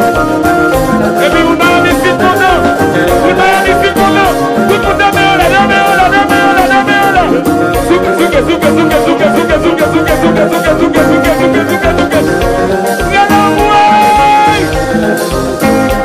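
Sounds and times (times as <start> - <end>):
brass-like lead melody: 0.0 - 16.0
live band dance music: 0.0 - 16.0.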